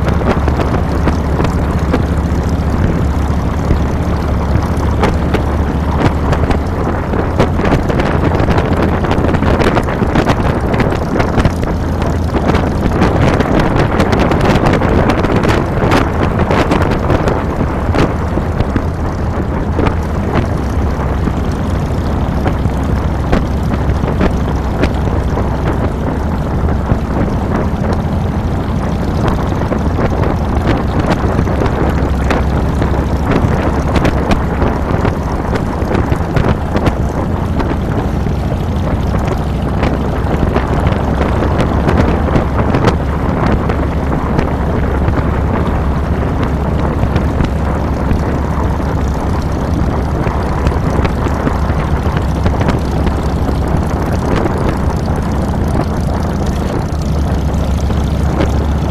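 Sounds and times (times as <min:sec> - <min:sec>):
motorcycle engine deep rumble: 0:00.0 - 0:58.9
wind buffeting microphone: 0:00.0 - 0:58.9.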